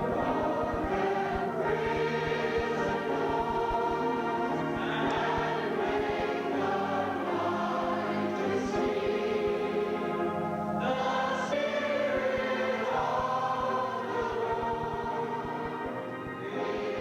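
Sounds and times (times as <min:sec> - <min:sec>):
congregation singing: 0:00.0 - 0:17.0.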